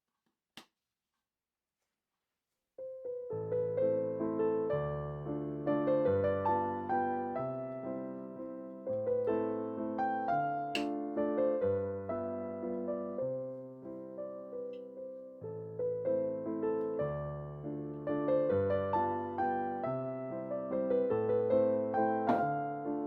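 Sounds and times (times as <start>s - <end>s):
solo piano dance music: 2.8s - 23.0s.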